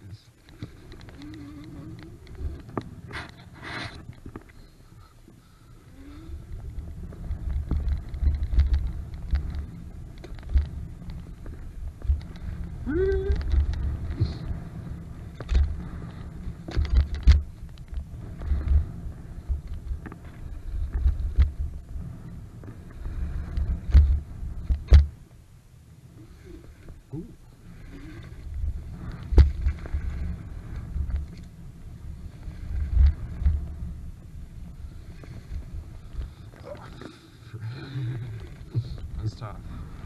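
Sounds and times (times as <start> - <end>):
wind buffeting microphone: 0.4 - 40.0.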